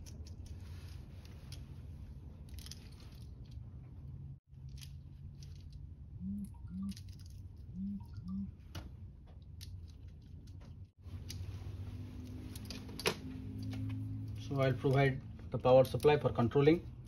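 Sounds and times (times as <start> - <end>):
low hum: 0.0 - 15.6.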